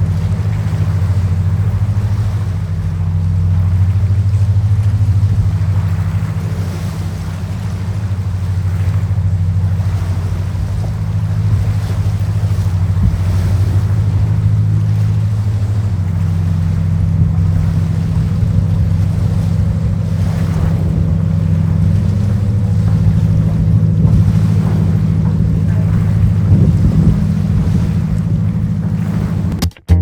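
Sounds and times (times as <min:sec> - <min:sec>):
wind on microphone: 0:00.0 - 0:29.6
boat engines droning: 0:00.0 - 0:29.7
water rushing: 0:00.0 - 0:29.7.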